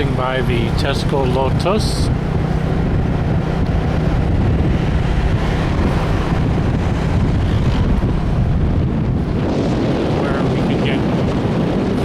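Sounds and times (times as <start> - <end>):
motorbike engine: 0.0 - 10.2
road noise: 0.0 - 12.0
wind buffeting microphone: 0.0 - 12.0.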